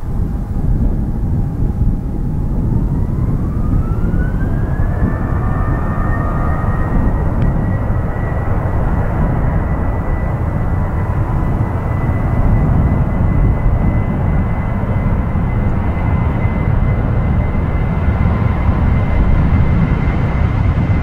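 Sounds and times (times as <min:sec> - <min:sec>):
jet engines spooling up: 0:00.0 - 0:21.0.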